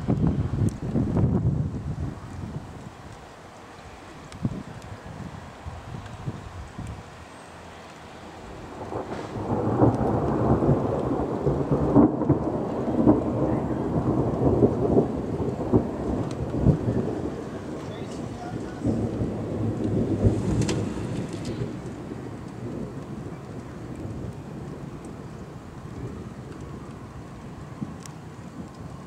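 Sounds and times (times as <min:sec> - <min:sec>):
rolling thunder: 0:00.0 - 0:02.8, 0:08.4 - 0:29.0.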